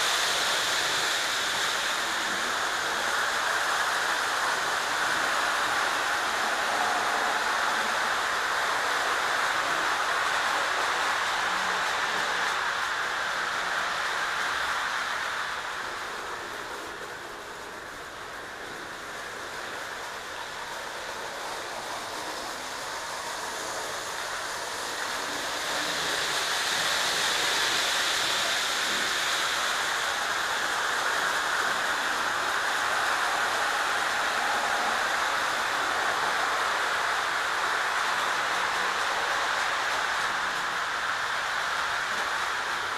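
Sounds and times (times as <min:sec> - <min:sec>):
model train rolling on track: 0:00.0 - 0:42.9.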